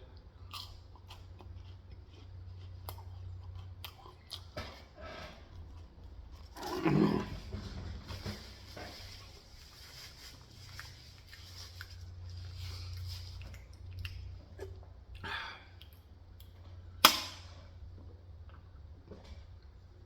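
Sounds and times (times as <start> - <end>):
close-up chewing: 0.1 - 16.6.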